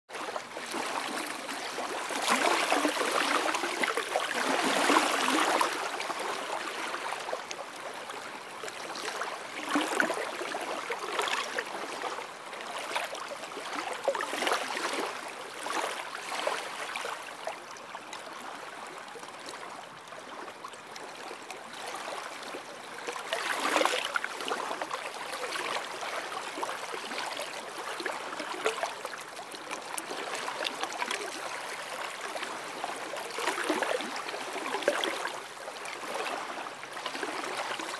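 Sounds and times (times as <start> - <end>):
waves lapping on sandy shore: 0.1 - 17.6, 21.8 - 37.9.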